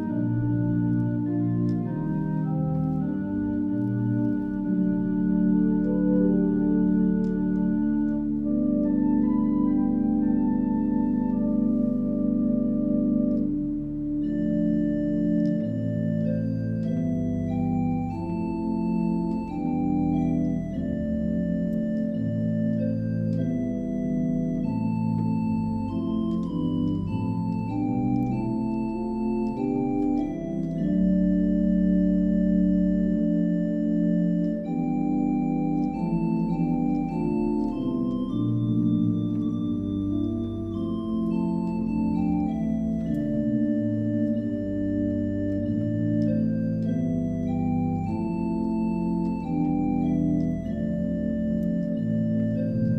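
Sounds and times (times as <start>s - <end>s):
organ playing slow hymn: 0.0s - 52.9s.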